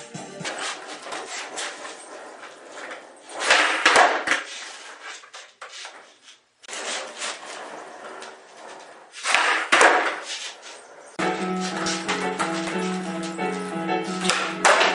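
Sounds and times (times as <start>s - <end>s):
skateboard clattering on floor: 0.2s - 13.4s, 14.2s - 14.9s.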